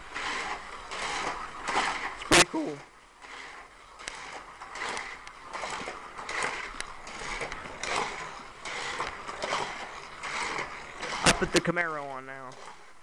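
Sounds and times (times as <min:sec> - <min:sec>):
toy cars whirring: 0:00.0 - 0:13.0.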